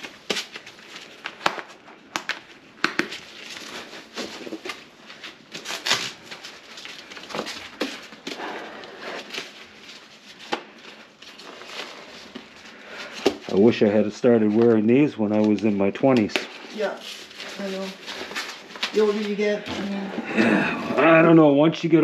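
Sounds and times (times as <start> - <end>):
rustling: 0.0 - 15.8, 16.4 - 20.0.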